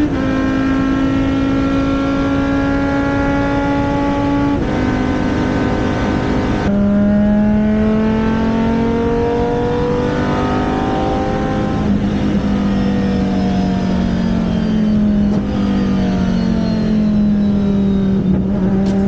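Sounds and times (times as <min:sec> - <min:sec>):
race car engine at speed: 0:00.0 - 0:19.0.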